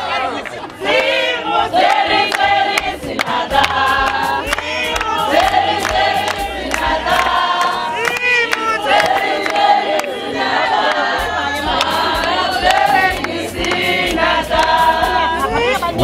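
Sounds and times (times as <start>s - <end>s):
crowd singing: 0.0s - 16.0s.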